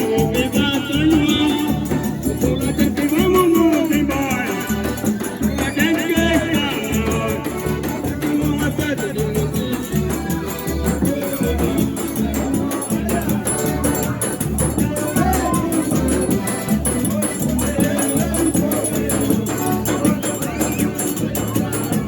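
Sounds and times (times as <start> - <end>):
person singing: 0.0 - 22.0
quick high percussion ticks: 0.2 - 22.0.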